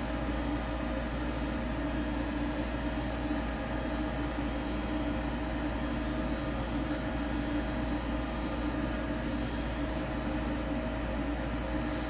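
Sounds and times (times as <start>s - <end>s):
machine humming with steady tones: 0.0s - 12.0s.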